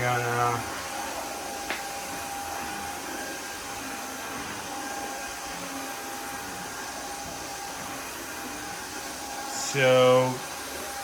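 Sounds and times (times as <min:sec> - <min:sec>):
cordless vacuum running: 0:00.0 - 0:11.0.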